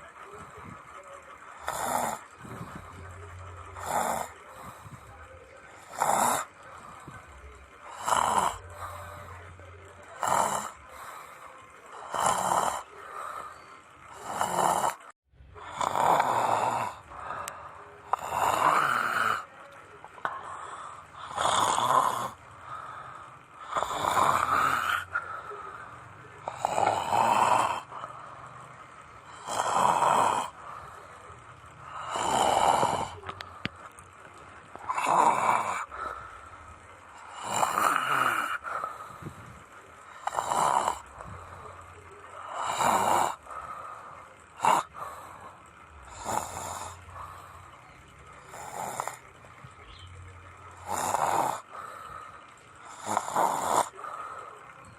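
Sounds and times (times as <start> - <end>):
person snoring: 1.5 - 7.2, 7.8 - 19.5, 20.2 - 34.0, 34.7 - 47.7, 48.4 - 49.2, 50.8 - 52.2, 52.8 - 54.6.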